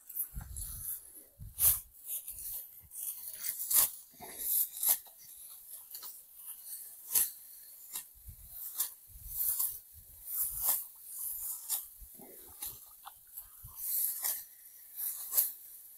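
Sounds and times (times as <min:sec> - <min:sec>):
straw rustling: 0:00.0 - 0:15.8
sickle cutting dry rice stalks: 0:00.0 - 0:15.9.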